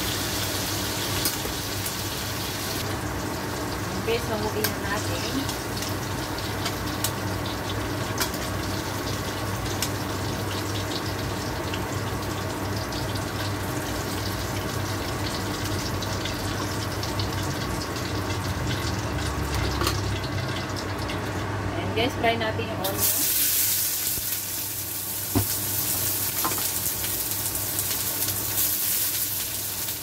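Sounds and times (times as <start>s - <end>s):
meat sizzling in hot oil: 0.0s - 22.2s, 22.8s - 30.0s.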